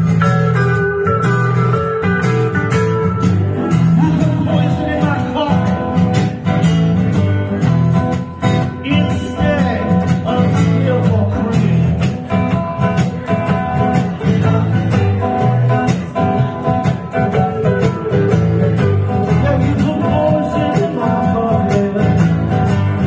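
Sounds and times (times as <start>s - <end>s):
acoustic guitar: 0.0s - 23.0s
electric guitar through amplifier: 0.0s - 23.0s.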